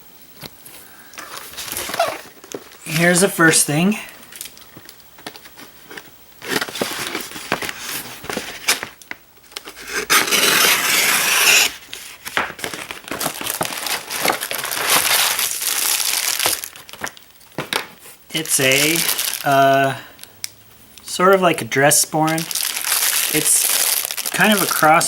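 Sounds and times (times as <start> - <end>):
packaging crinkling and rustling: 0.4 - 20.3, 21.9 - 25.0.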